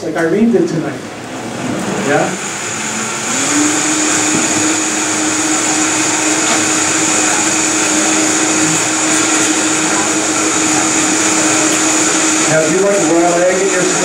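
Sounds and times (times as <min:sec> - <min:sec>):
blender running at high speed: 0:02.0 - 0:14.0.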